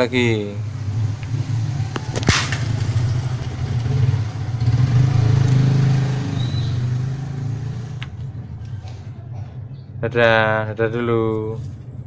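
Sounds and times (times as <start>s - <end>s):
vehicle engine humming: 0.0s - 10.2s.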